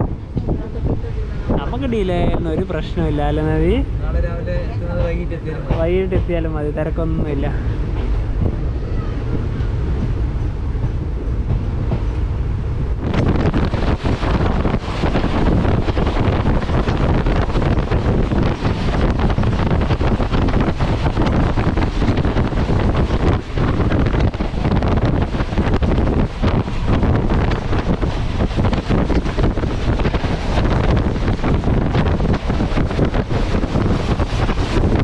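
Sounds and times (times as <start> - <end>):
rail clatter: 0.0 - 35.0
train wheels rumbling on rail: 0.0 - 35.0
wind on microphone: 0.0 - 35.0.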